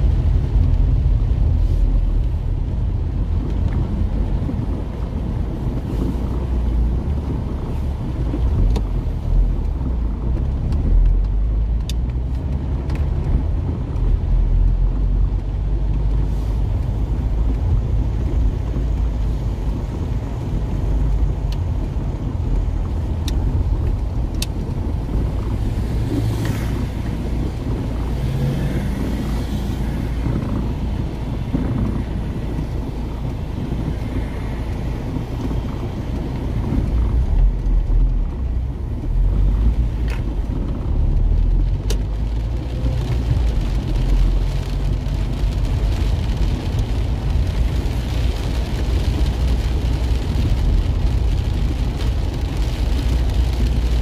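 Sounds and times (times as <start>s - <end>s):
car rumble on wet road: 0.0s - 54.0s.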